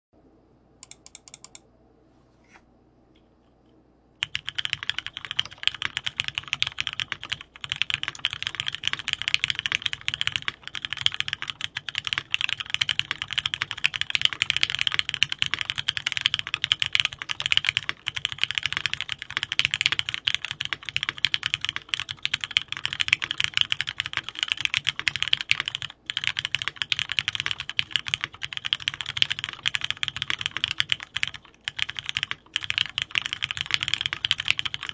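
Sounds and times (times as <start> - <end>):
rapid continuous clicking: 4.2 - 34.9.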